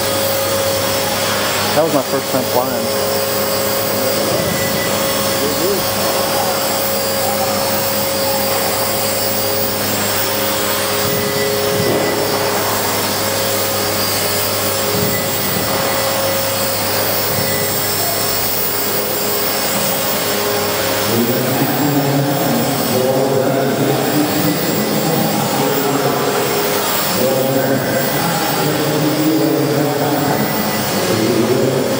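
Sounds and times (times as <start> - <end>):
toy helicopter rotor whir: 0.0 - 31.9.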